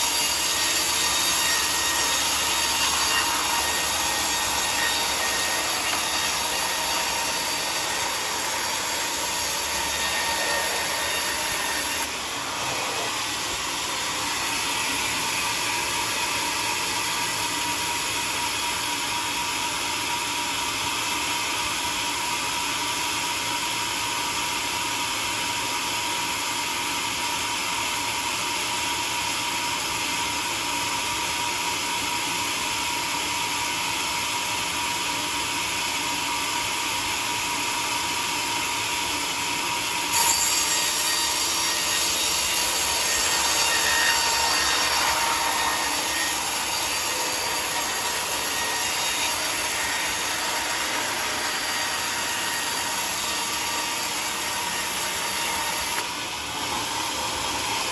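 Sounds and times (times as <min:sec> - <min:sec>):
sawmill sawing timber: 0:00.0 - 0:25.7, 0:27.5 - 0:57.9.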